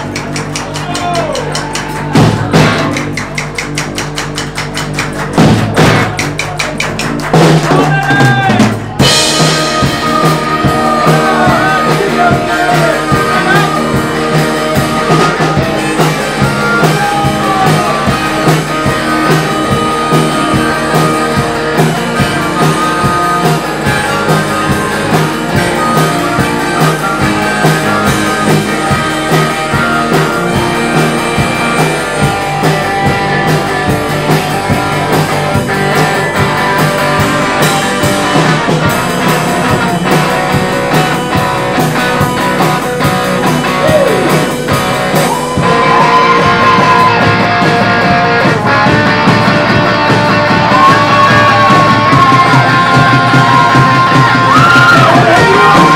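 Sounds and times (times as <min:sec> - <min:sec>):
drum kit beat: 0:00.0 - 0:55.9
electric guitar: 0:00.0 - 0:55.9.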